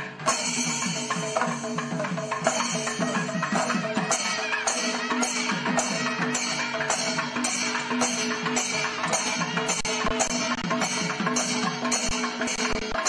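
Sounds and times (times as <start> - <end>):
music with percussion beat: 0.0 - 13.0.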